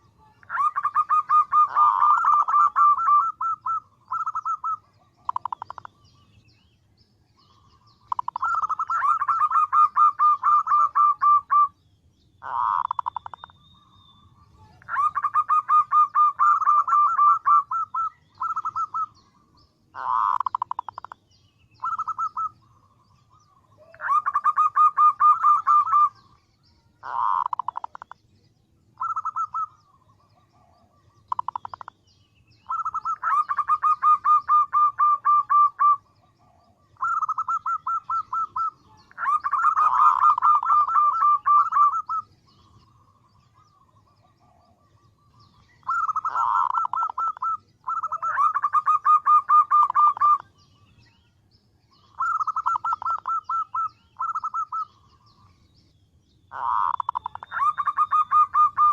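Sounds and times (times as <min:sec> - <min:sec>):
dove pulsed trill call: 0:00.0 - 0:58.9.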